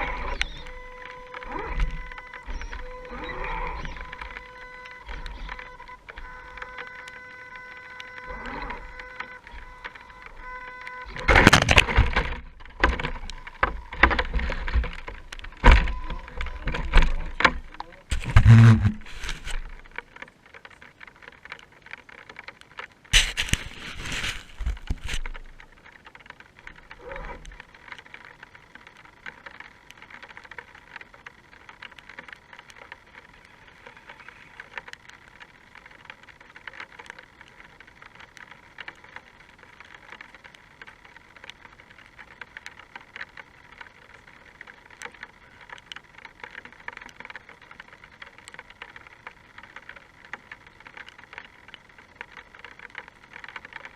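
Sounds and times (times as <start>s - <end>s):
rain pattering: 0.0s - 53.9s.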